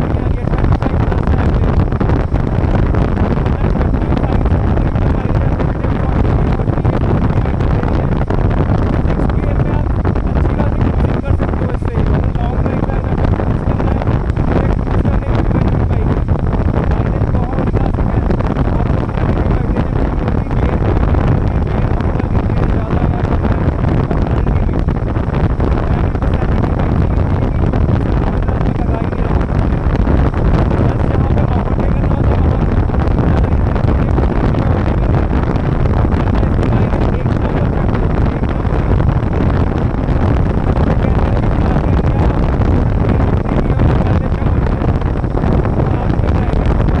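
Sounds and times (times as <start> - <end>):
wind noise on microphone: 0.0 - 47.0.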